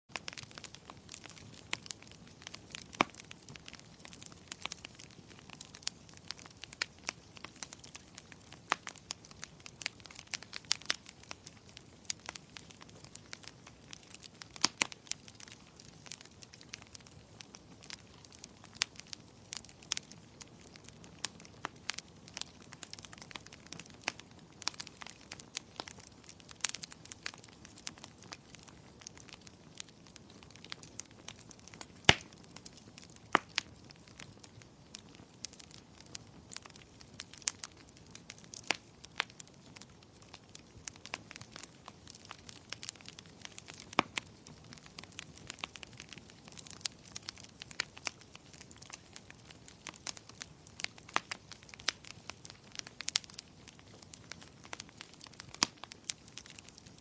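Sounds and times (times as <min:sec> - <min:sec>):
wood fire crackling and popping: 0:00.1 - 0:57.0.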